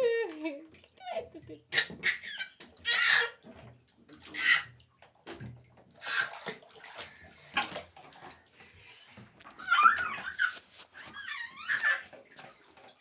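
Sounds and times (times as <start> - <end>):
water splashing in bathtub: 0.0 - 13.0.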